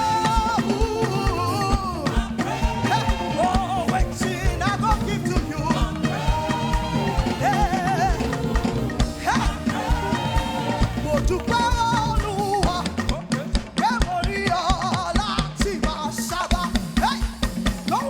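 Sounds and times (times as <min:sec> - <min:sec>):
steady drum beat: 0:00.0 - 0:18.0
upbeat praise band music: 0:00.0 - 0:18.0.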